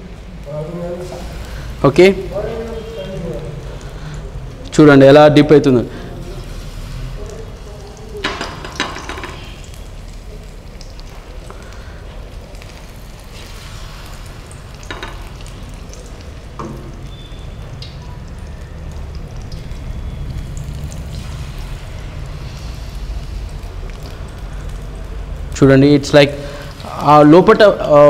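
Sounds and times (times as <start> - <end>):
batter frying in hot oil: 0.0 - 28.0.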